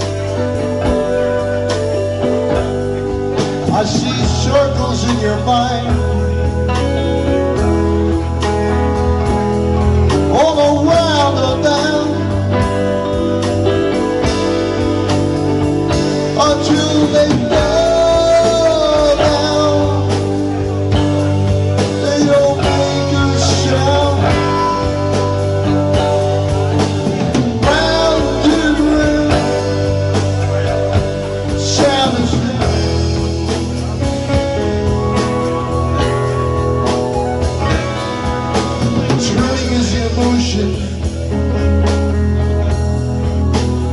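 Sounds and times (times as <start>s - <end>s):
drum kit: 0.0s - 43.9s
electric bass: 0.0s - 43.9s
electric guitar: 0.0s - 43.9s
keyboard: 0.0s - 43.9s.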